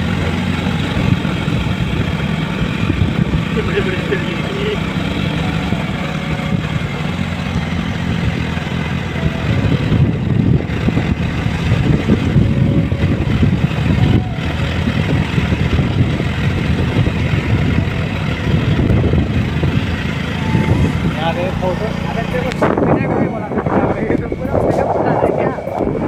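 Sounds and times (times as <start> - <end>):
wind rumble on microphone: 0.0 - 4.1, 5.0 - 21.8, 22.4 - 26.0
motorcycle engine running: 0.0 - 26.0.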